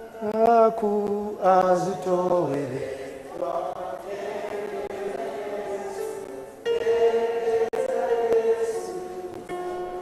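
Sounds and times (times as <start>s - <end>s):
congregation singing a hymn: 0.0s - 10.0s.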